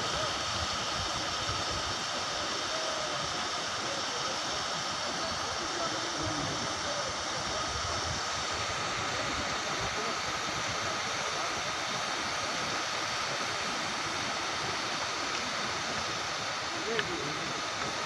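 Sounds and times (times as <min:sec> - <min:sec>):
mountain stream rushing: 0:00.0 - 0:18.0.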